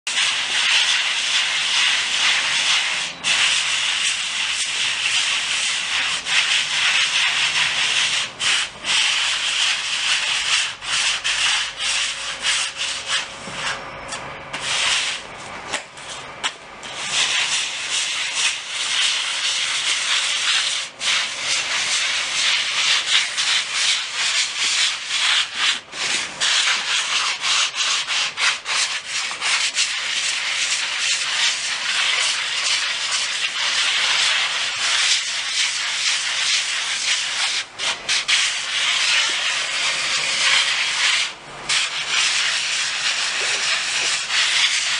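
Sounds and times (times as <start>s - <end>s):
sanding a surface: 0.1s - 13.8s, 14.6s - 15.2s, 16.0s - 44.9s.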